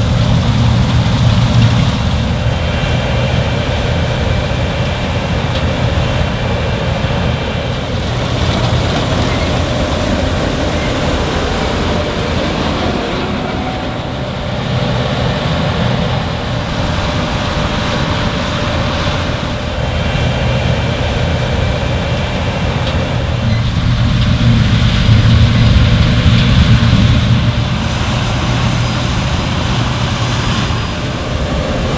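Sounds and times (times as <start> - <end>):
diesel engine running: 0.0 - 31.9
machinery whine: 0.0 - 31.9.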